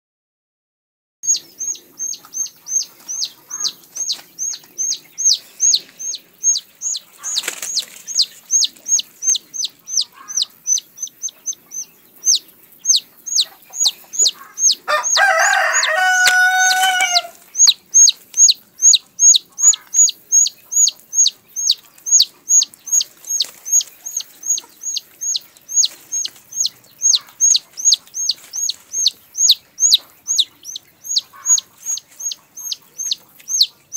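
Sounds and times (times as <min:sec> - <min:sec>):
chick peeping: 0:01.2 - 0:33.9
hen squawking: 0:01.3 - 0:33.9.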